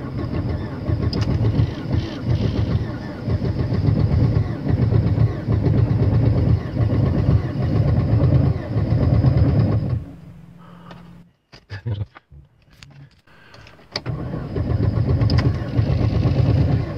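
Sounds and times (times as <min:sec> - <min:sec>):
car engine idling: 0:00.0 - 0:11.4, 0:12.9 - 0:16.9.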